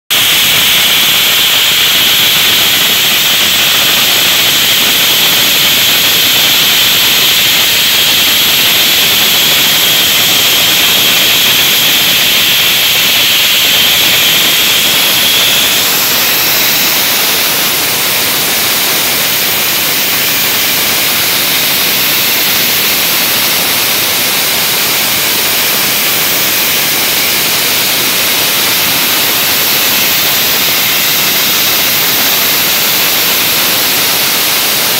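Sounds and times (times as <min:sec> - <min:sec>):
dry ice blasting hiss: 0:00.1 - 0:34.9.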